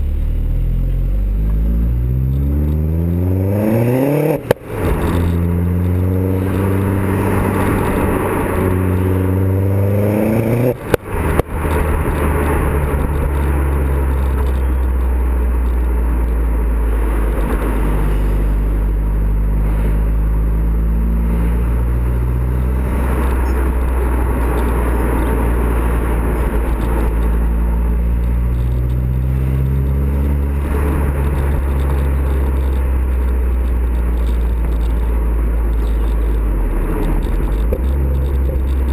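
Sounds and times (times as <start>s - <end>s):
car exhaust revving: 0.0s - 38.9s.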